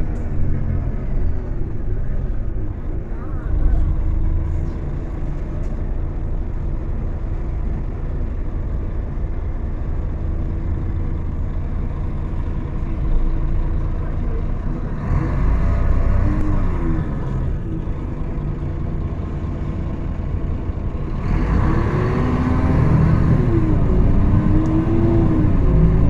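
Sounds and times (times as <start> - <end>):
bus diesel engine rumble: 0.0 - 26.0.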